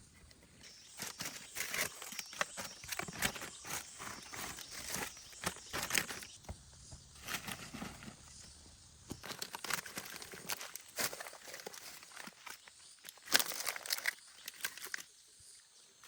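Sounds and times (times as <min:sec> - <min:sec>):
dry leaves and twigs rustling: 0:00.0 - 0:16.0.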